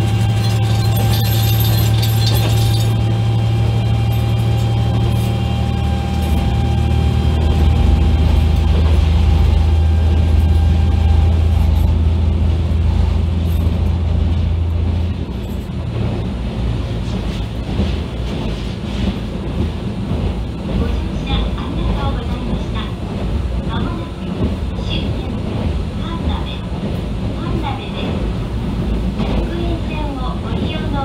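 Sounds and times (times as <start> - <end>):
railcar engine droning: 0.0 - 31.0
train rolling: 0.0 - 31.0.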